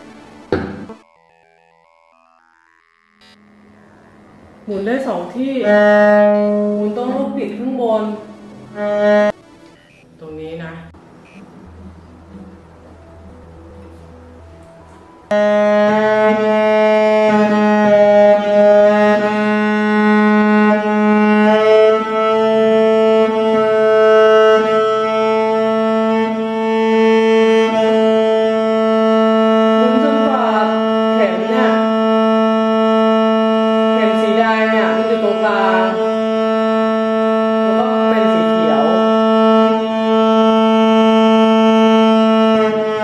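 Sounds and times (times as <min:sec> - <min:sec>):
cello string bowed sustained note: 0:03.1 - 0:09.5, 0:10.2 - 0:43.0.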